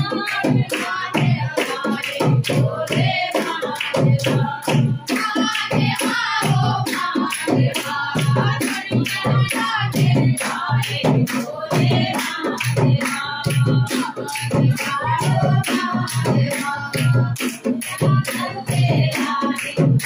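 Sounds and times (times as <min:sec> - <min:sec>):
rhythmic hand clapping: 0:00.0 - 0:20.0
women singing together: 0:00.0 - 0:20.0.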